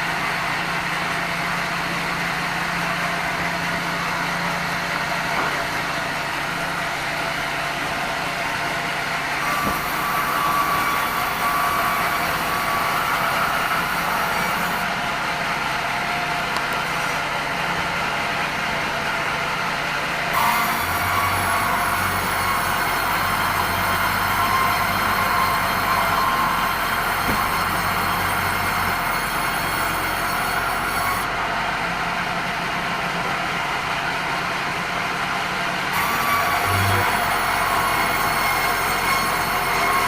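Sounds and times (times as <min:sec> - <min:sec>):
band saw machine hum: 0:00.0 - 0:34.8, 0:35.9 - 0:40.0
high machine whine: 0:00.0 - 0:40.0.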